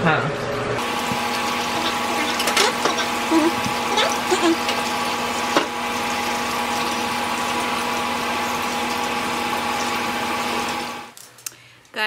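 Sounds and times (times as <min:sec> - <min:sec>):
electric toothbrush buzzing: 0:00.8 - 0:11.1.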